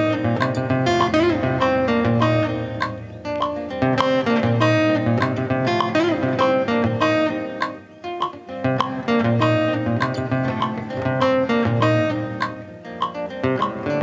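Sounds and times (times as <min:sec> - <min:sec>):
electric guitar picking notes: 0:00.0 - 0:14.0.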